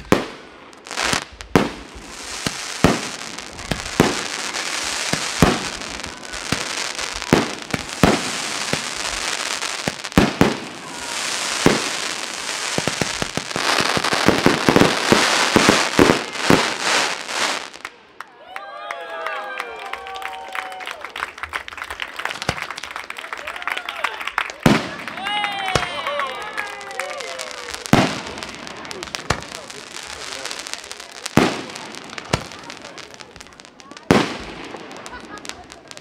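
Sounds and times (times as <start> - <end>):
fireworks bangs: 0.0 - 18.1, 22.2 - 23.0, 24.5 - 36.0
crackling fireworks sizzle: 0.0 - 18.3, 19.9 - 36.0.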